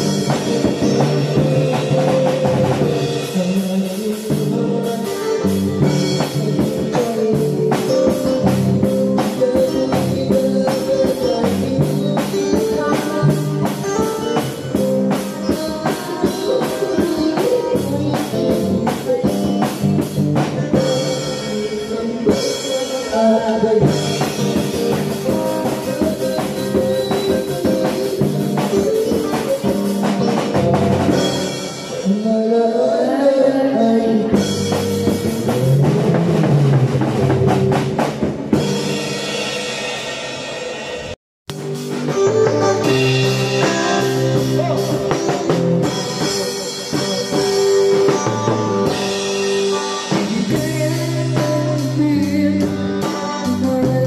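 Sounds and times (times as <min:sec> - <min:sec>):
drum kit beat with cymbals: 0:00.0 - 0:32.7, 0:33.8 - 0:54.0
man singing: 0:00.0 - 0:37.6, 0:42.1 - 0:54.0
electric guitar: 0:00.0 - 0:54.0.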